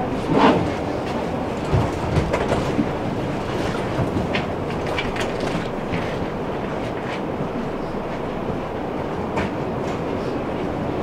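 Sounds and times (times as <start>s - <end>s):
tram rumbling on track: 0.0s - 11.0s.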